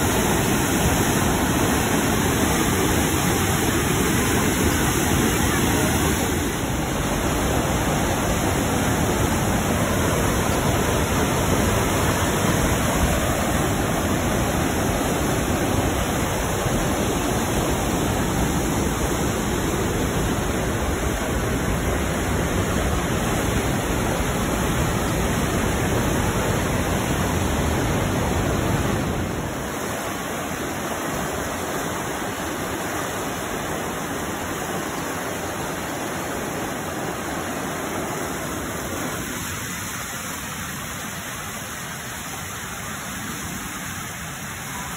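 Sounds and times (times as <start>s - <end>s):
waterfall roaring: 0.0s - 44.9s.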